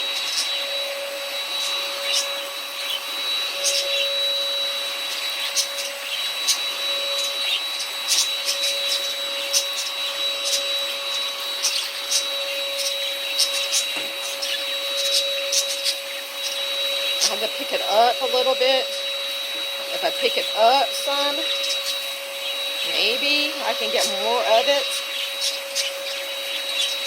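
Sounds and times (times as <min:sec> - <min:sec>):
vacuum cleaner motor whine: 0:00.0 - 0:27.0.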